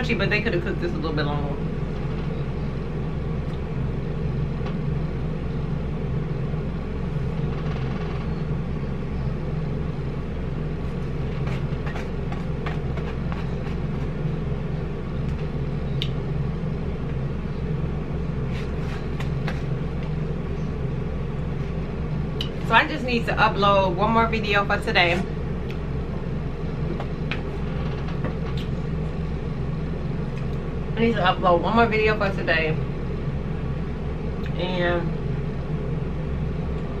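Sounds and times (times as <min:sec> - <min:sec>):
low rumbling hum: 0:00.0 - 0:37.0.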